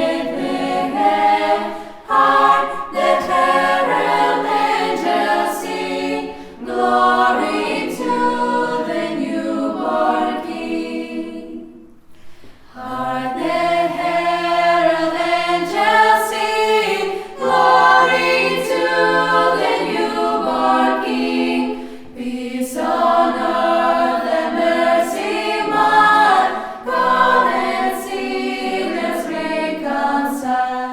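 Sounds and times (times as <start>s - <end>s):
choir singing: 0.0s - 12.0s, 12.7s - 30.9s.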